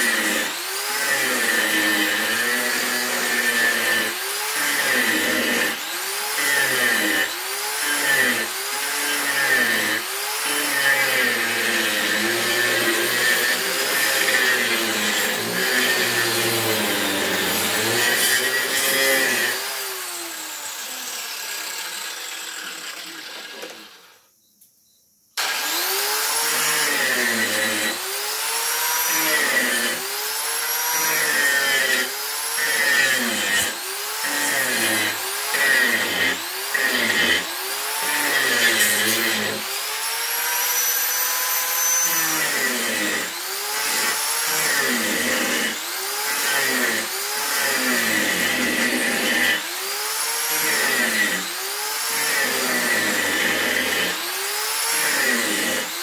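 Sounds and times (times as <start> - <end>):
electric power sander on wood: 0.0 - 24.1, 25.4 - 56.0.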